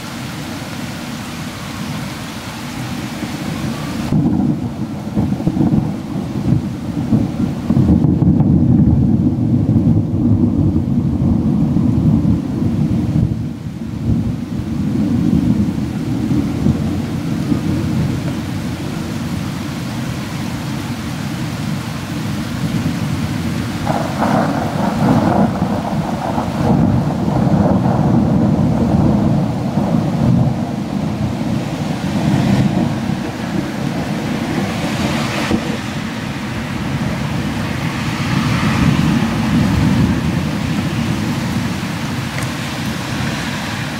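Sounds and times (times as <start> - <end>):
steady rain: 0.0 - 43.9
thunder rumbling: 0.0 - 43.9.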